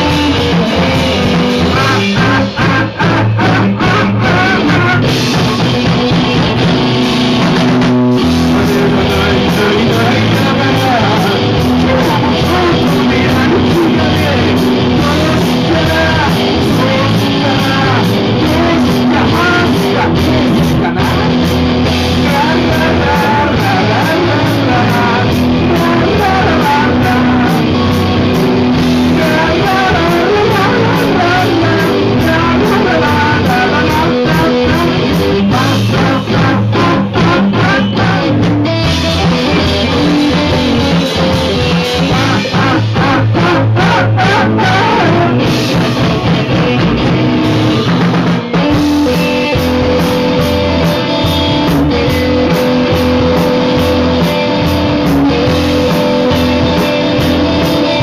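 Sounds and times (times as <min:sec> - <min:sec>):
man singing: 0:00.0 - 0:06.7, 0:08.2 - 0:58.0
drums: 0:00.0 - 0:58.0
electric guitar: 0:00.0 - 0:58.0.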